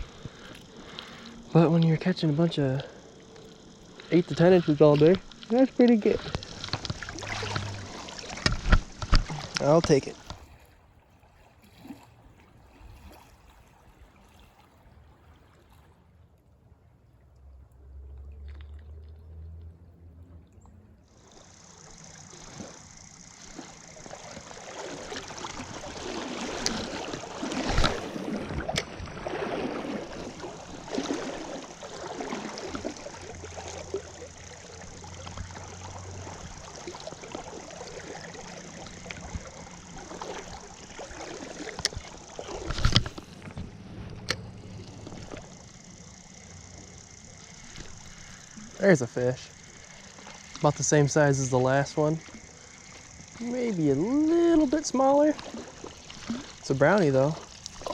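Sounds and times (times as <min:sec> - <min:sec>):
river water flowing: 0:00.0 - 0:15.9, 0:17.3 - 0:57.9.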